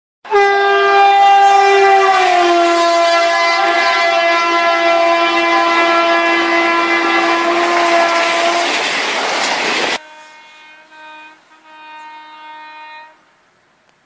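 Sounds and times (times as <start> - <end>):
train horn blast: 0.2 - 8.8, 9.9 - 13.3.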